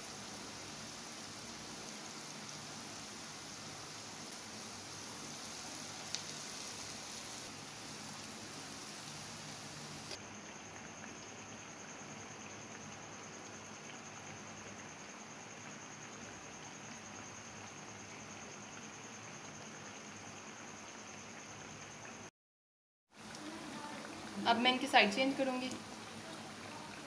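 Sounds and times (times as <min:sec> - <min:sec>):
food sizzling in hot oil: 0:00.0 - 0:22.3, 0:23.1 - 0:27.0.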